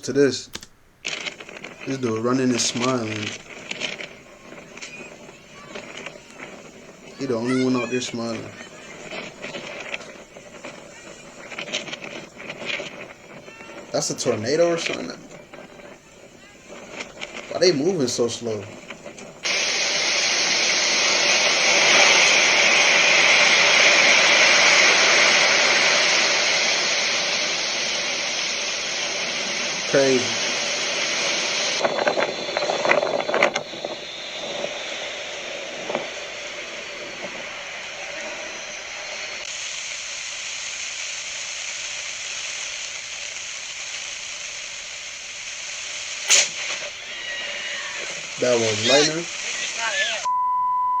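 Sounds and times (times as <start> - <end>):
lightning crack: 0.0 - 50.3
wind and rain on microphone: 0.8 - 50.3.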